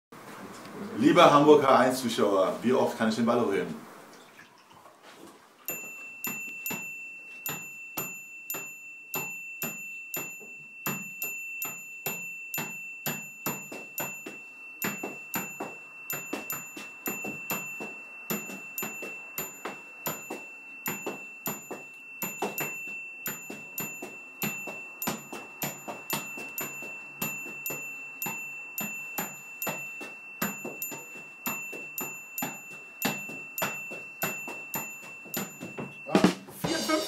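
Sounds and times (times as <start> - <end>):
high-pitched tone: 5.7 - 37.0.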